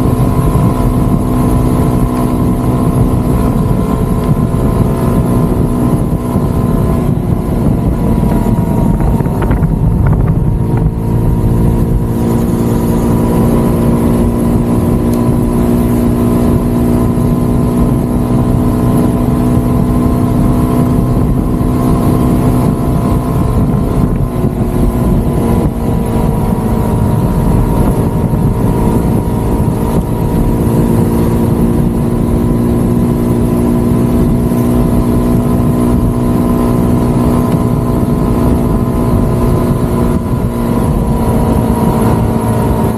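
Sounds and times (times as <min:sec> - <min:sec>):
motorcycle engine cruising: 0:00.0 - 0:42.9
wind and road rush: 0:00.0 - 0:42.9.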